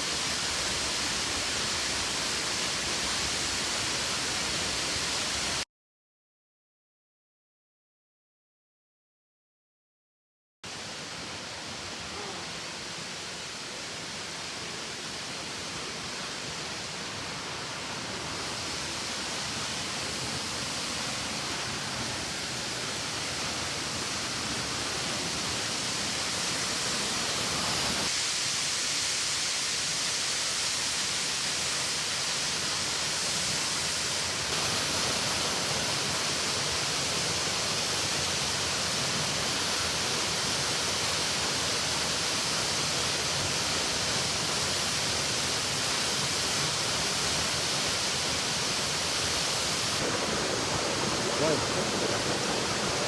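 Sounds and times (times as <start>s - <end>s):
waterfall rushing: 0.0s - 5.6s, 10.7s - 53.0s.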